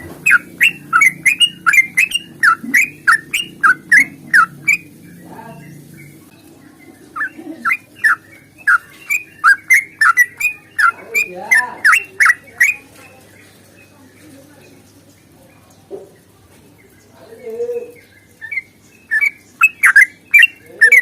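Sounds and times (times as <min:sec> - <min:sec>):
bird singing rapid chirps: 0:00.0 - 0:15.6, 0:16.8 - 0:21.0.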